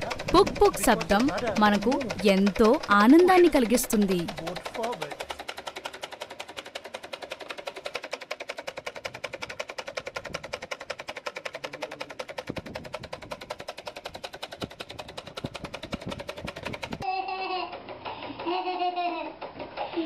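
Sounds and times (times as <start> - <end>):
toy boat motor ticking: 0.0 - 20.0.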